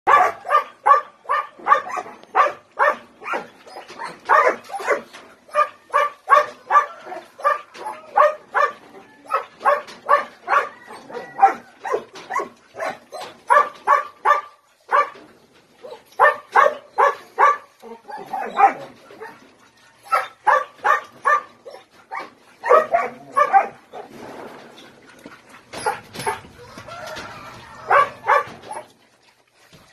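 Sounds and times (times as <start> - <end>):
dog yipping: 0.1 - 15.2, 15.8 - 19.4, 20.0 - 24.1, 25.7 - 26.8, 27.7 - 28.9.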